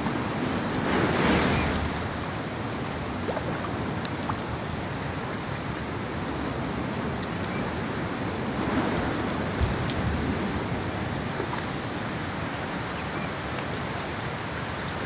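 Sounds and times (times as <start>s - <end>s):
wind rumbling against microphone: 0.0s - 15.0s.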